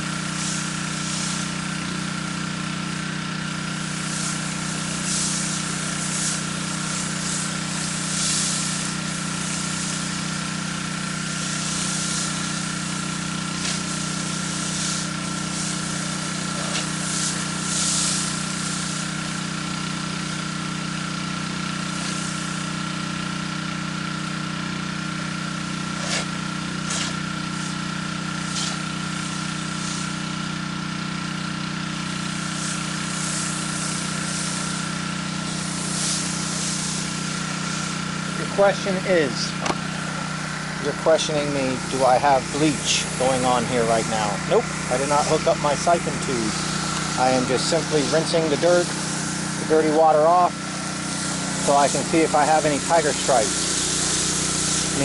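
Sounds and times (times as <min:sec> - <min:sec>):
pressure washer engine whine: 0:00.0 - 0:55.0
water spraying on concrete: 0:00.0 - 0:55.0.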